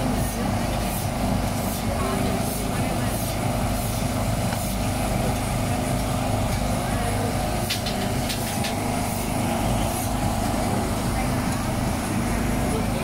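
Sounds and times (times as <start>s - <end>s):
low engine drone: 0.0s - 13.0s
people talking: 0.0s - 13.0s.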